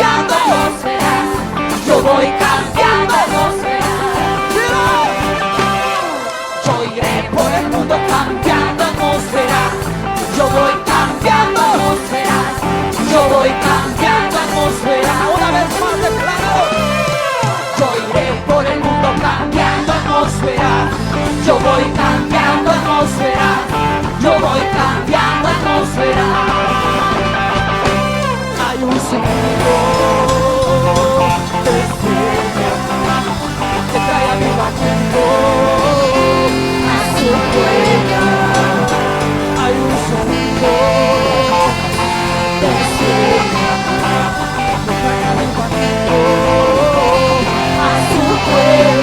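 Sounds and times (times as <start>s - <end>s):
drum beat: 0.0s - 6.0s, 7.0s - 28.4s, 29.2s - 49.0s
band playing instrumental: 0.0s - 49.0s.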